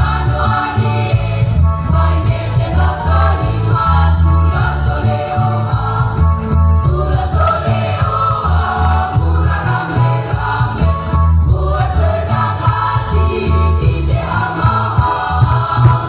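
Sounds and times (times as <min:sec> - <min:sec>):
choir singing in parts: 0:00.0 - 0:16.0
heavy bass accompaniment: 0:00.0 - 0:16.0
rhythmic percussion: 0:00.0 - 0:16.0.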